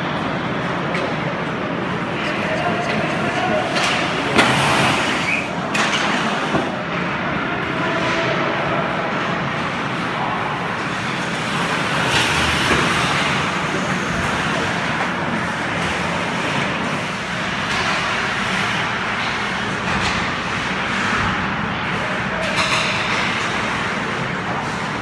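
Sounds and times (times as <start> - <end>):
hockey sticks and players moving: 0.7 - 25.0.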